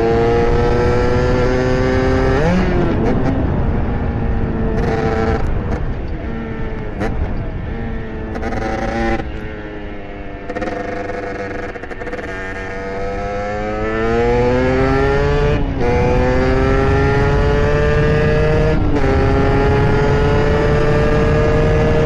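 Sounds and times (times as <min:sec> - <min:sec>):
two-stroke engine accelerating: 0:00.0 - 0:22.0.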